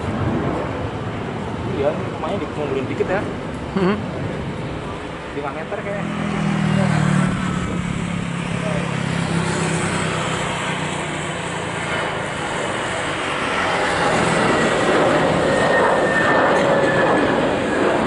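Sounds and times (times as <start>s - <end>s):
jet aircraft rushing with whine: 0.0s - 18.0s.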